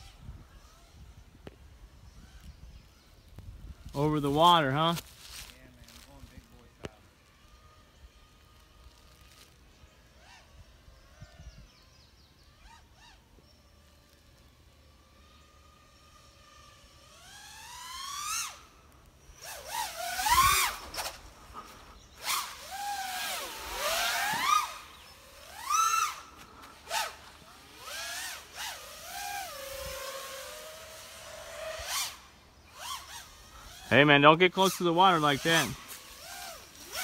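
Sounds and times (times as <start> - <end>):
drone motors whining: 0.0 - 37.0.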